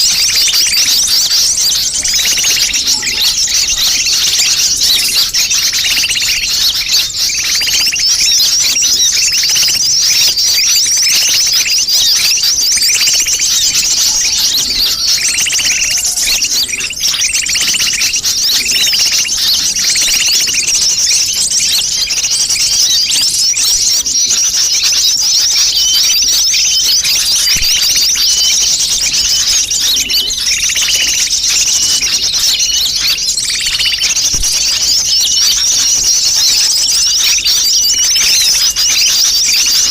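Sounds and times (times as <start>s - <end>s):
chorus of bird chirps and trills: 0.0s - 39.9s.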